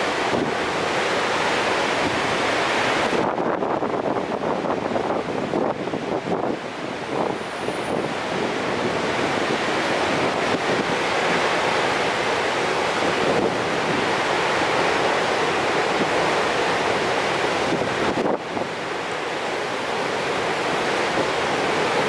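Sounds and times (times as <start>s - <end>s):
waterfall rushing: 0.0s - 22.0s
wind buffeting microphone: 0.0s - 22.0s.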